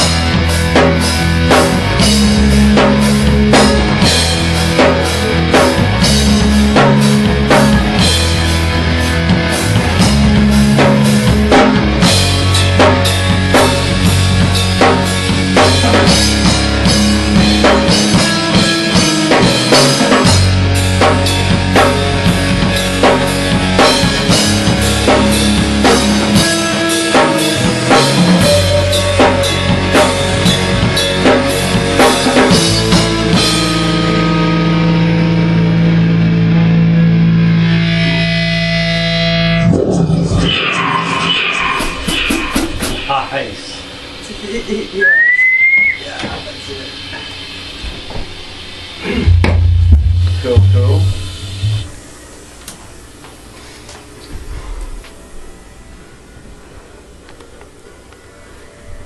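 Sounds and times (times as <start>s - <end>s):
heavy metal band playing live: 0.0s - 44.8s, 48.8s - 52.0s.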